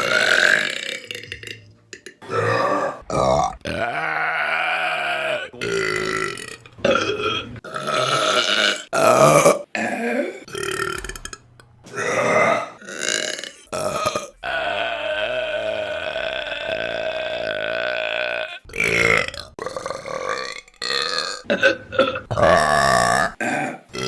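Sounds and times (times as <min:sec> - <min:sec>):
woman burping: 0:00.0 - 0:24.0.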